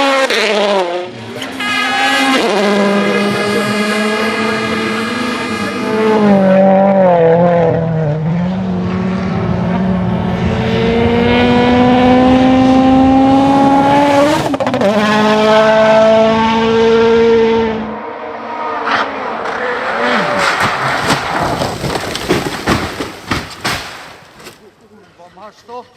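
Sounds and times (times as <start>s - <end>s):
rally car engine revving: 0.0s - 23.2s.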